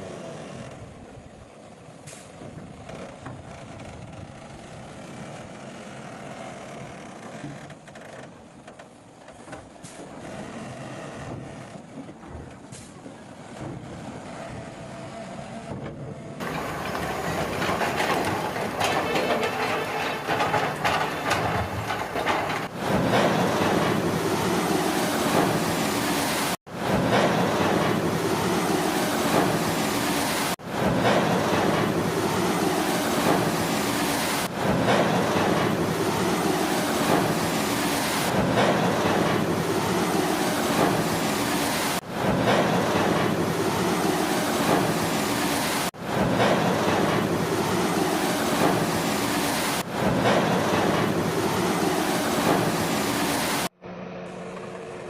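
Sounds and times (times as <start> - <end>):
heavy machinery engine rumbling: 8.9 - 55.0.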